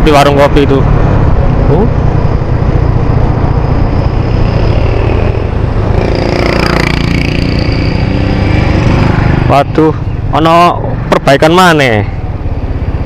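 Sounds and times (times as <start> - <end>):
high rising whine: 0.2 - 12.6.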